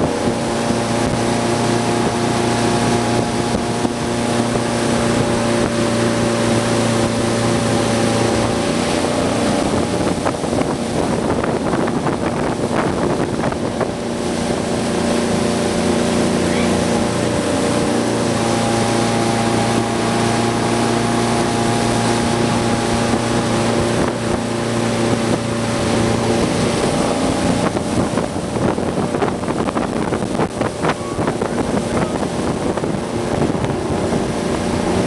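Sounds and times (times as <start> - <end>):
boat engine running: 0.0 - 35.0
rushing water: 0.0 - 35.0
wind buffeting microphone: 0.0 - 35.0.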